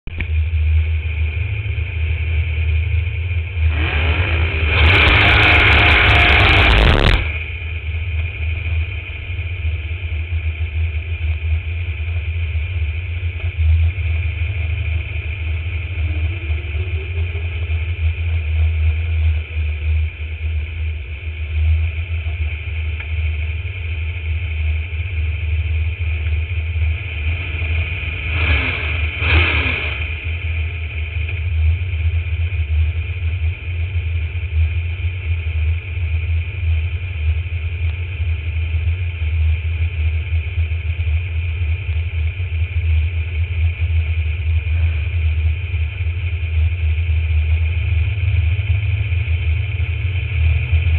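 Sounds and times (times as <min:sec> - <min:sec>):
race car engine idling: 0:00.0 - 0:50.9.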